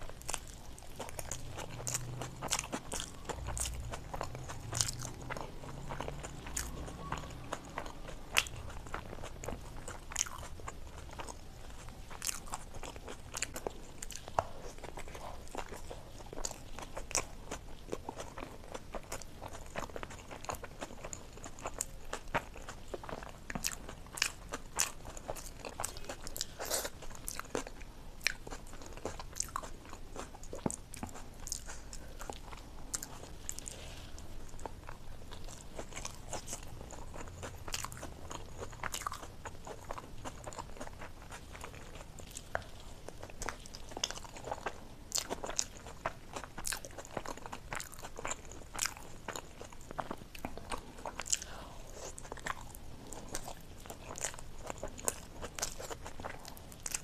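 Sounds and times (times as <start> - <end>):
person chewing with wet smacks: 0.0 - 57.0.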